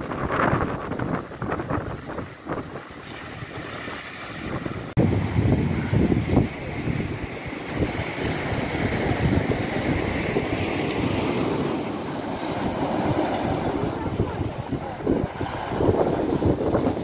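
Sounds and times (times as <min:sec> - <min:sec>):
wind buffeting microphone: 0:00.0 - 0:17.0
waves breaking on pebble beach: 0:01.3 - 0:17.0.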